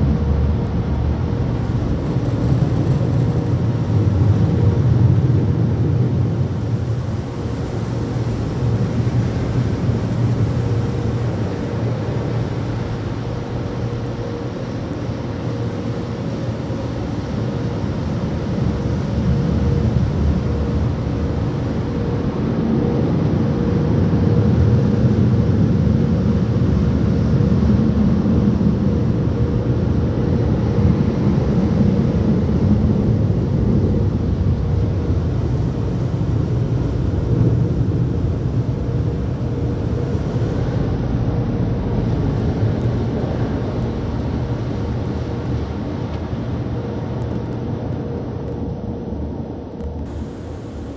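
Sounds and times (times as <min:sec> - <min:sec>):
dryer blowers rushing air: 0:00.0 - 0:50.9
faint steady hum: 0:00.0 - 0:50.9.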